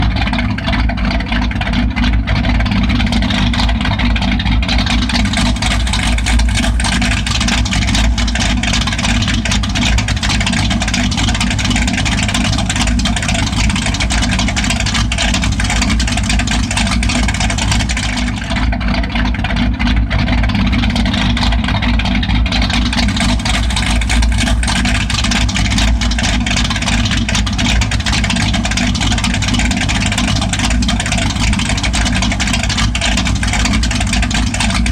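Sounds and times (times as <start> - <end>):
truck engine idling loudly: 0.0 - 34.9.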